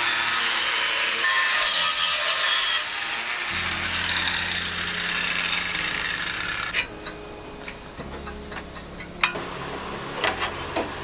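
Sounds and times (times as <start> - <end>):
power tool cutting sheet metal: 0.0 - 11.0.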